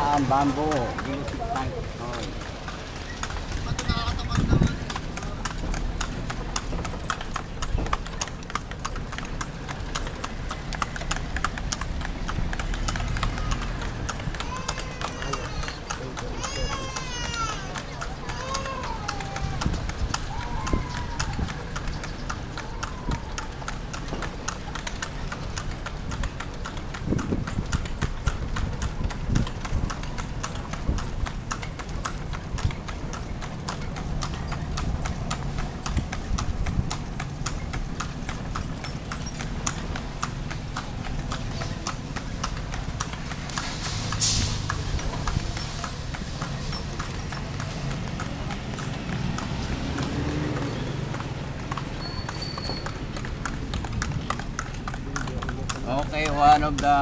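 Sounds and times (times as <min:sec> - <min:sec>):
carriage rumbling: 0:00.0 - 0:57.0
horse hooves clip-clopping on asphalt: 0:00.0 - 0:57.0.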